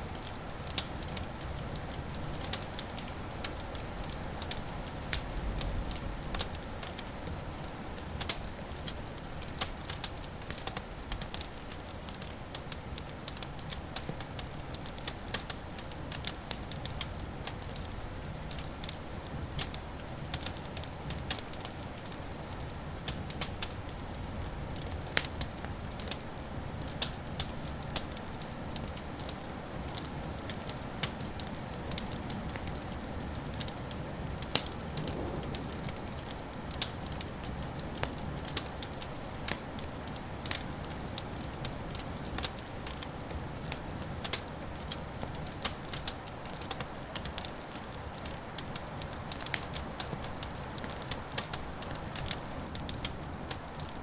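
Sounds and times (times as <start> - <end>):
wood fire crackling in fireplace: 0.0 - 54.0.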